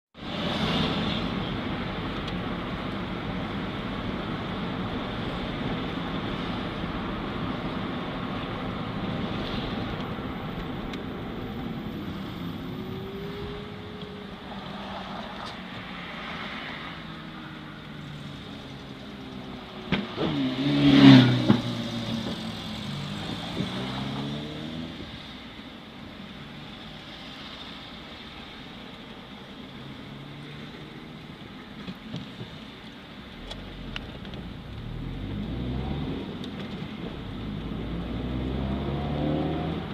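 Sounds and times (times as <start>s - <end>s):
car engine and road noise: 0.1s - 39.9s.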